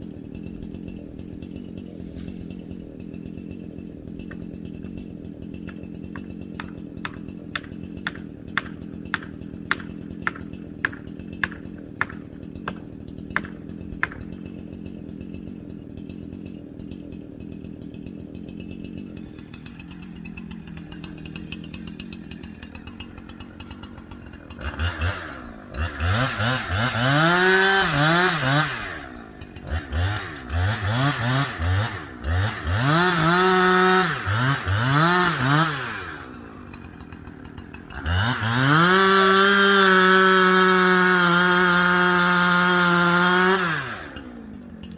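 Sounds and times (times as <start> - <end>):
chainsaw idling and revving: 0.0 - 44.9.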